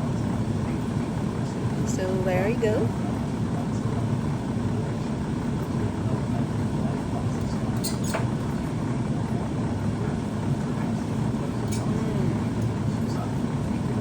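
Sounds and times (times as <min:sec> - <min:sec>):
pot of soup boiling: 0:00.0 - 0:14.0.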